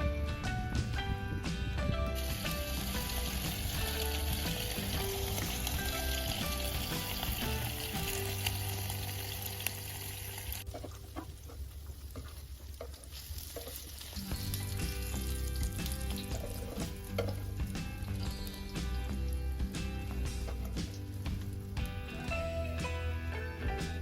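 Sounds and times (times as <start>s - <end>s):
soft music with low notes: 0.0s - 11.4s, 14.0s - 24.0s
food sizzling over wood fire: 0.8s - 24.0s.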